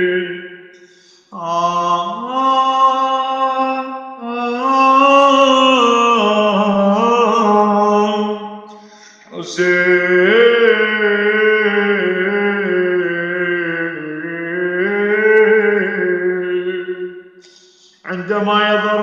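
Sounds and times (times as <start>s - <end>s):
man chanting unaccompanied: 0.0s - 0.4s, 1.0s - 19.0s.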